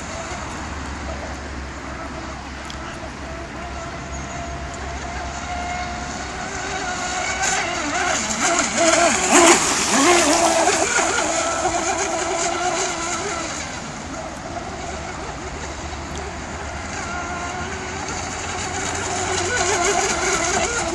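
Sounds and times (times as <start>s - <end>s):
electric boat motor whining: 0.0s - 20.9s.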